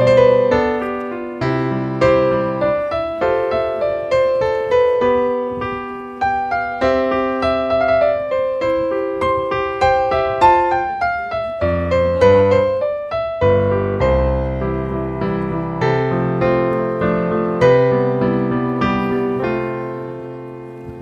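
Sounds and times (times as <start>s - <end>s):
gentle piano melody: 0.0s - 21.0s
low piano bass notes: 0.0s - 21.0s.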